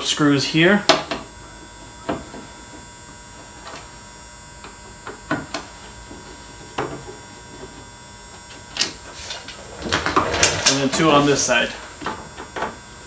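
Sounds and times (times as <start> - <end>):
steady faint hum: 0.0 - 13.0.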